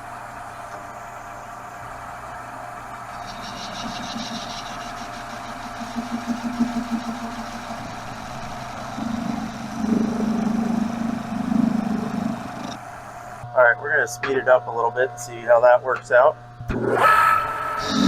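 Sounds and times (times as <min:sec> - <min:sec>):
metal lathe cutting steel: 0:00.0 - 0:18.0.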